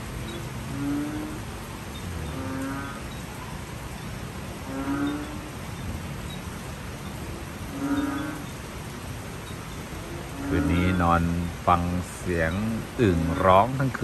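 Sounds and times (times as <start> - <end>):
frogs calling: 0.0 - 14.0
rain hissing: 0.0 - 14.0.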